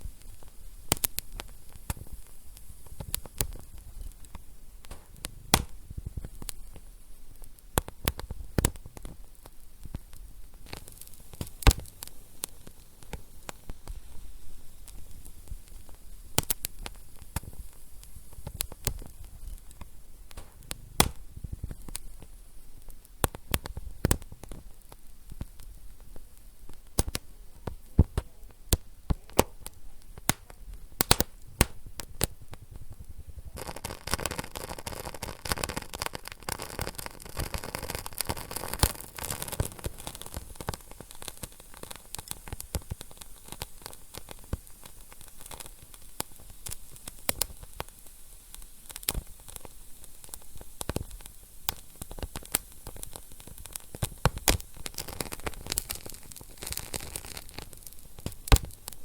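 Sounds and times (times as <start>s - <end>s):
steady hiss: 0.0s - 59.0s
wood fire crackling: 0.0s - 59.0s.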